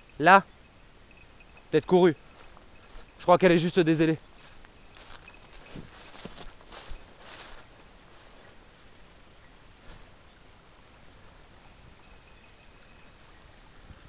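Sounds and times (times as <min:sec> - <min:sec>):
faint high bird calls: 0:01.5 - 0:13.6
brush rustling: 0:01.6 - 0:14.0.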